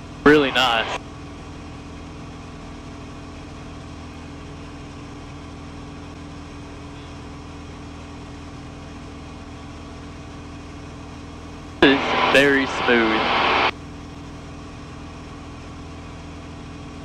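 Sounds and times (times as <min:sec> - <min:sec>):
airplane engine and propeller drone: 0:00.0 - 0:17.0.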